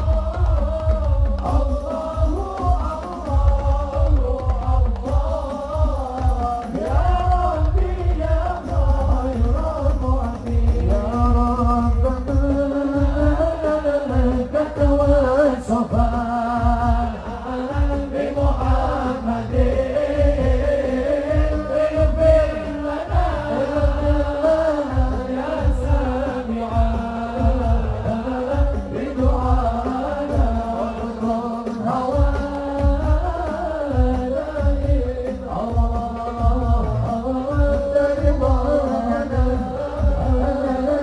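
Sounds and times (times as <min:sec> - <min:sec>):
frame drums beat: 0:00.0 - 0:41.0
man singing through loudspeaker: 0:00.0 - 0:41.0.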